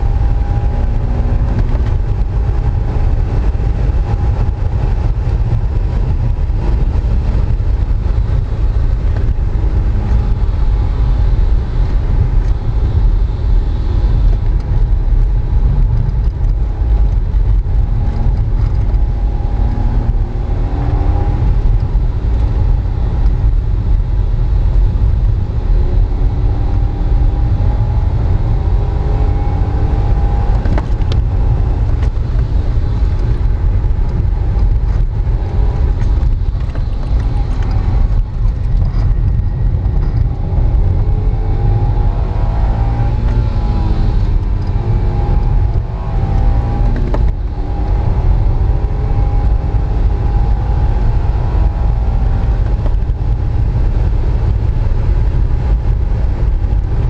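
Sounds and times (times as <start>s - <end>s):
car engine revving: 0.0s - 57.0s
road noise rumble: 0.0s - 57.0s.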